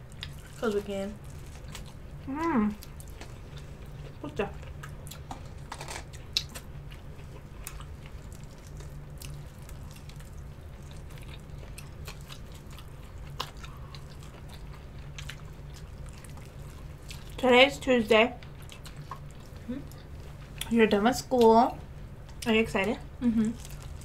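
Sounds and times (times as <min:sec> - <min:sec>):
wet chewing with crunches: 0:00.0 - 0:17.7, 0:18.4 - 0:21.6, 0:23.4 - 0:24.0
steady low hum: 0:00.0 - 0:24.0.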